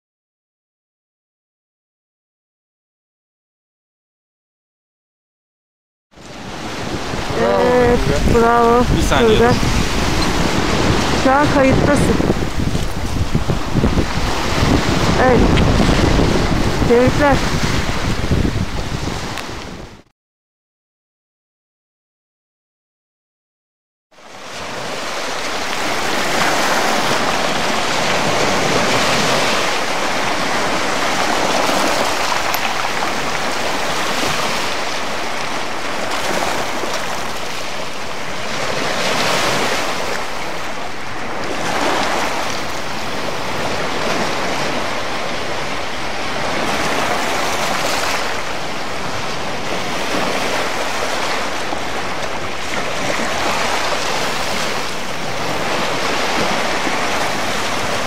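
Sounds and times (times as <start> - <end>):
small waves breaking in shallows: 6.2 - 20.0, 24.2 - 58.0.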